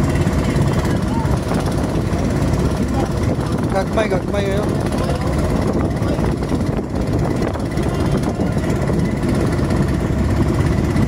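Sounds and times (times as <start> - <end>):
boat engines droning: 0.0 - 11.0
water rushing: 0.0 - 11.0.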